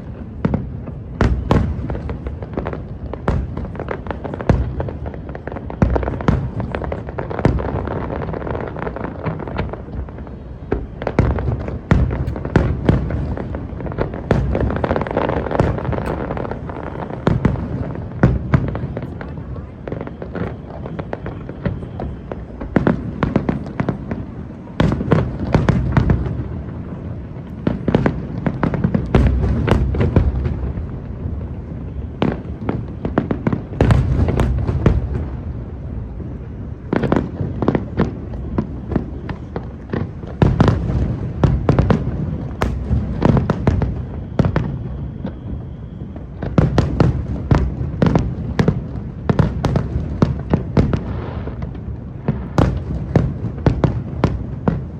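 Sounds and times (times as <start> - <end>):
firework bursts and bangs: 0.0 - 54.9.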